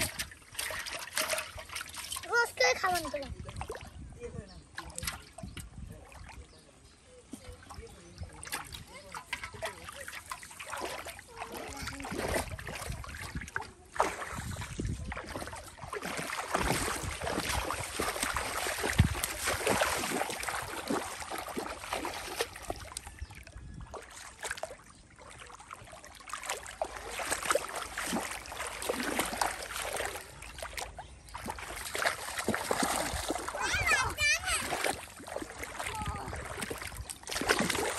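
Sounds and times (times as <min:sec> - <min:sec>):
muddy water splashing: 0:00.0 - 0:37.9.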